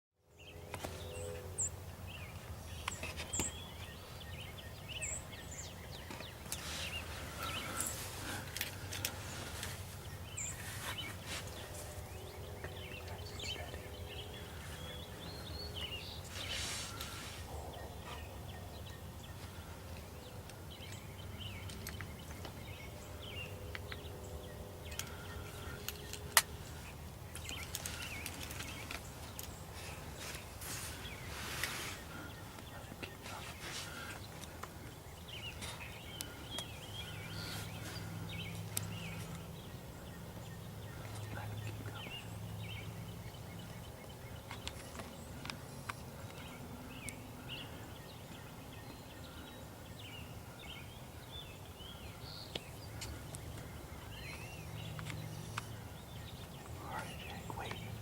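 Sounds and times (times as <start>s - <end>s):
outdoor background hum: 0.2s - 58.0s
songbirds chirping: 0.2s - 58.0s
rustles: 0.7s - 24.1s, 24.8s - 58.0s.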